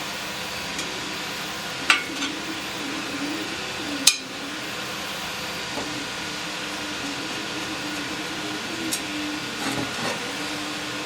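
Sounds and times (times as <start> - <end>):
fan-like hum: 0.0 - 11.0.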